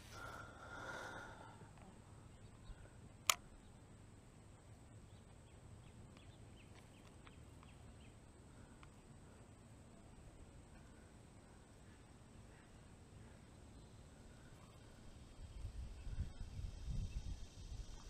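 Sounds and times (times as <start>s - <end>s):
faint bird chirps: 1.9s - 3.9s, 4.9s - 18.0s.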